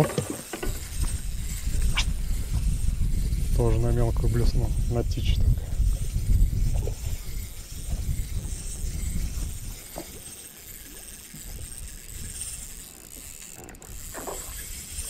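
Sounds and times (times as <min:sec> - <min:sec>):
fishing reel whirring and ratcheting: 0:00.0 - 0:15.0.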